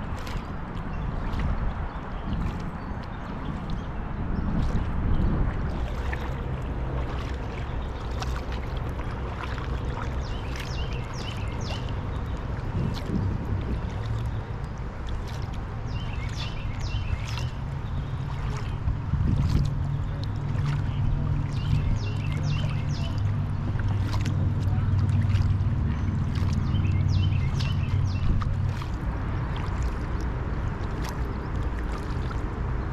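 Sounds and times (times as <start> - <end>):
low wind rumble: 0.0 - 32.9
water sloshing around kayak: 0.0 - 32.9.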